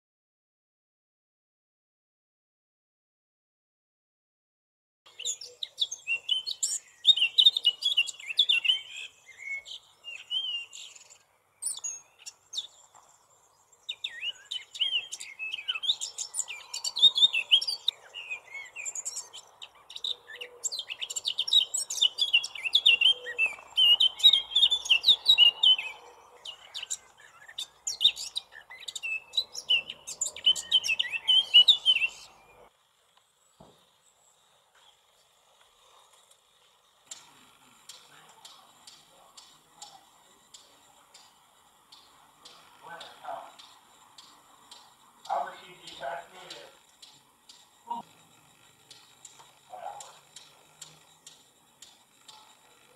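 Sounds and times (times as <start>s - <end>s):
bird singing fast warbling: 5.1s - 32.7s, 37.0s - 52.9s
faint steady hiss: 5.1s - 52.9s.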